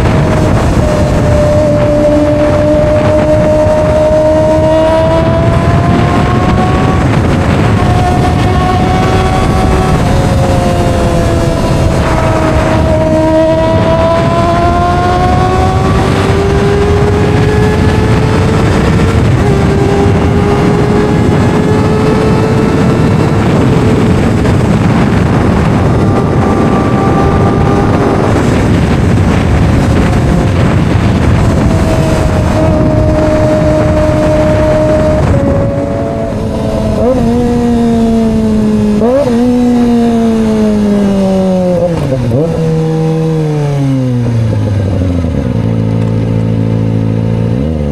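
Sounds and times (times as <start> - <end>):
motorcycle engine at high revs: 0.0 - 47.9
wind noise: 0.0 - 47.9.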